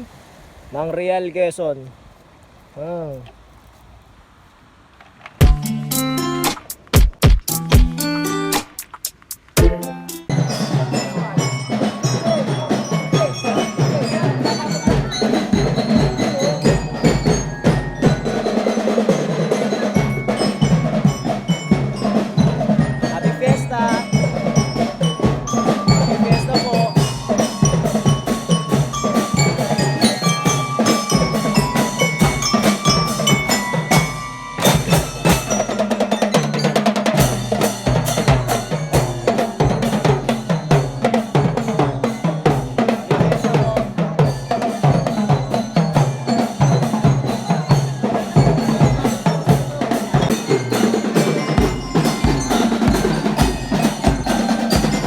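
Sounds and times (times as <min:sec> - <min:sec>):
mallet melody: 0:05.4 - 0:06.8, 0:07.4 - 0:08.9, 0:09.6 - 0:55.0
drums beating: 0:05.4 - 0:55.0.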